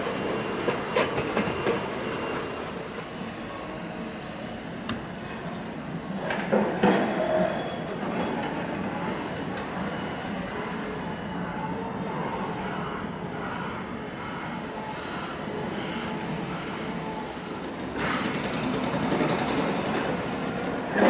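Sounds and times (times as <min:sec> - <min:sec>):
diesel locomotive running: 0:00.0 - 0:21.0.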